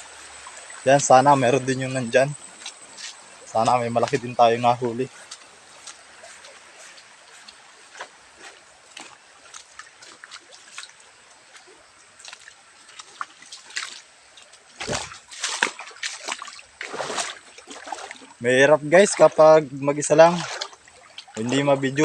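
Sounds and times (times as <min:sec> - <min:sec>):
footsteps wading through water: 0:00.0 - 0:22.0.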